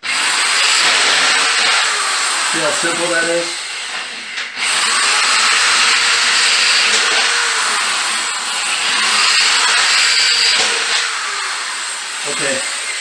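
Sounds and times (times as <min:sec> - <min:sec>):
electric drill boring through metal: 0:00.0 - 0:13.0.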